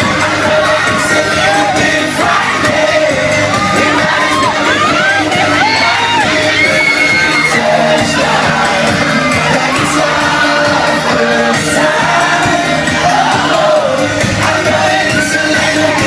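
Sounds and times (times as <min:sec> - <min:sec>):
band playing: 0:00.0 - 0:16.0
crowd cheering and singing along: 0:00.0 - 0:16.0
lead voice singing: 0:00.0 - 0:16.0.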